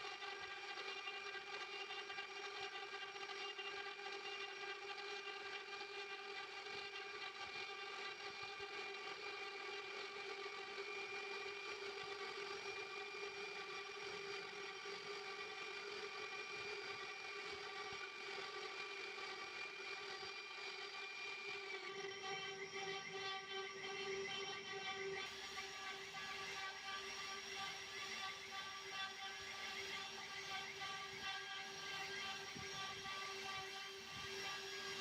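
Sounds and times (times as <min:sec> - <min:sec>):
router spindle motor whine: 0:00.2 - 0:35.0.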